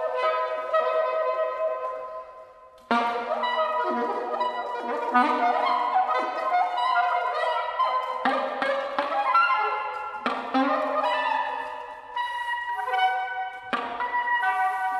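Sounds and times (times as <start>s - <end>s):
soprano saxophone: 0.0s - 14.9s.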